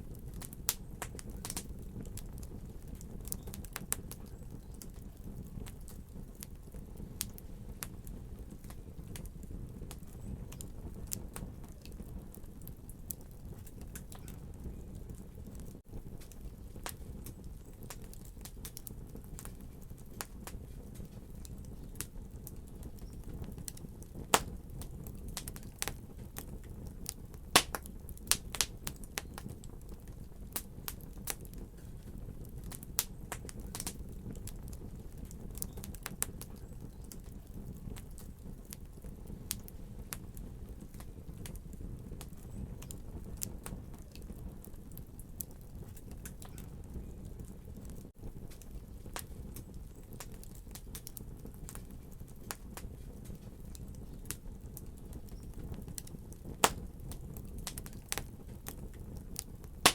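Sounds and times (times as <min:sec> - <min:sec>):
low rumble of burning: 0:00.0 - 0:59.9
wood fire crackling: 0:00.0 - 0:59.9.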